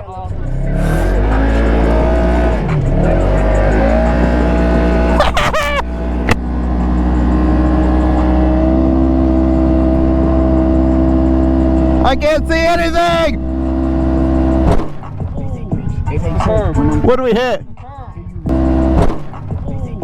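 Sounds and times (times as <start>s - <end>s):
off-road vehicle engine revving: 0.0s - 17.2s, 18.3s - 20.0s.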